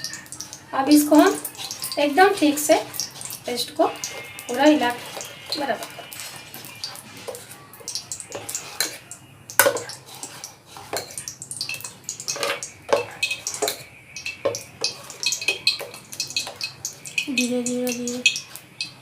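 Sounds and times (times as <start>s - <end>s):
utensil clinking against bowl: 1.1s - 19.0s.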